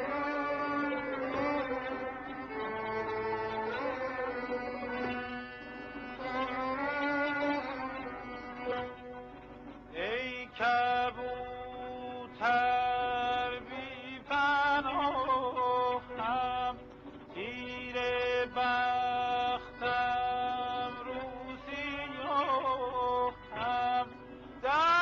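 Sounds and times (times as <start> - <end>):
solo melody of long held notes: 0.0 - 25.0
steady low drone: 0.0 - 25.0.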